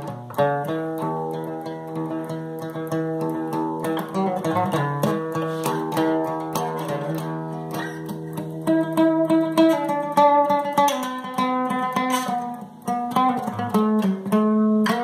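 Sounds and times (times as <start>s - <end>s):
guitar plucked notes: 0.0s - 15.0s.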